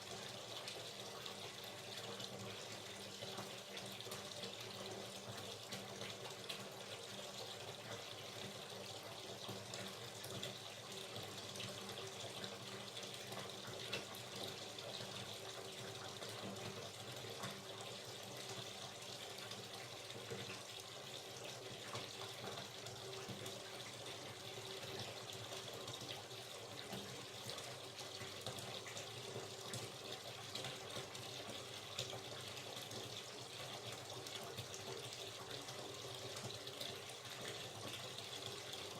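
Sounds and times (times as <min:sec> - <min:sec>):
tap water filling bathtub: 0:00.0 - 0:38.9.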